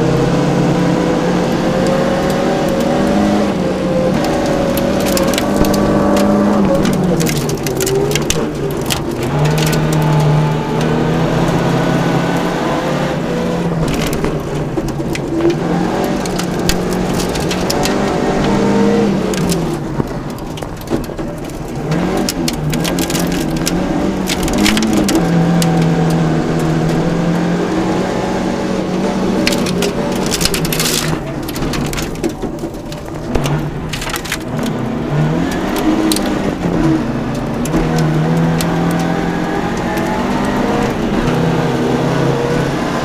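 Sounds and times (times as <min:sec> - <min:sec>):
car engine revving: 0:00.0 - 0:43.0
gravel crackling against car underbody: 0:00.9 - 0:43.0.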